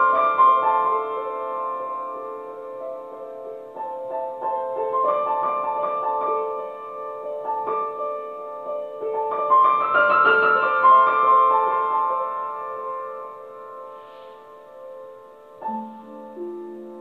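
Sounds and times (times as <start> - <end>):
solo piano: 0.0 - 17.0.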